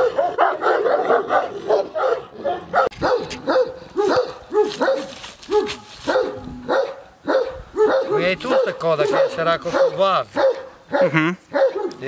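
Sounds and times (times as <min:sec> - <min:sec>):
large dog barking: 0:00.0 - 0:12.0.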